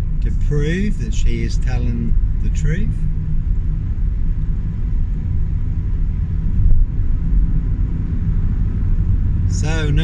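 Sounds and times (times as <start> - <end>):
car engine and road noise: 0.0 - 10.0
faint constant hum: 0.0 - 10.0.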